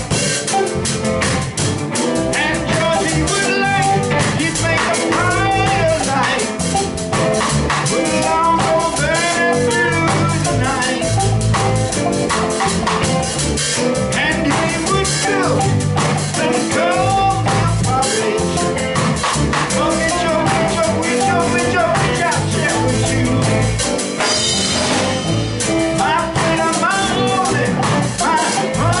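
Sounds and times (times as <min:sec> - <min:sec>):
live reggae band playing: 0:00.0 - 0:29.0.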